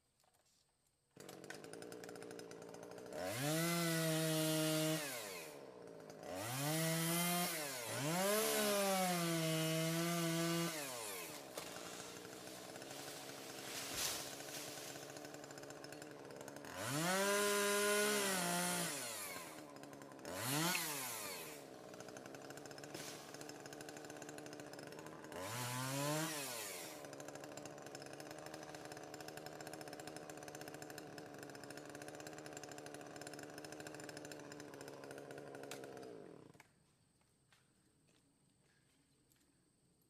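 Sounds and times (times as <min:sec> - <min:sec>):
chainsaw idling and revving: 0:01.2 - 0:36.8.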